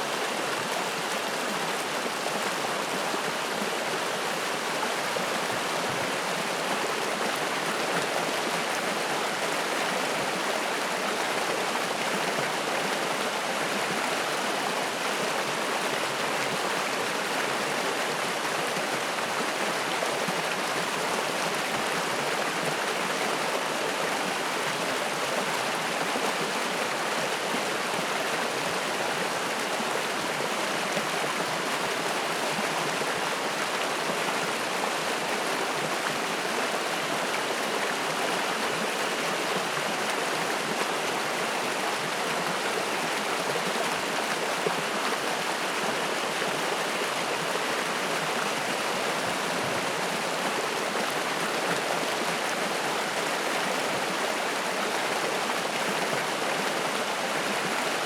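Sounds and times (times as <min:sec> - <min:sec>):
stream flowing and splashing: 0:00.0 - 0:58.0.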